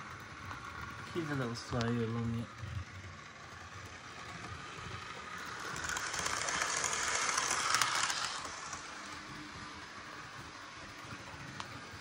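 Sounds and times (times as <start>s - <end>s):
model train running on rails: 0.0s - 12.0s.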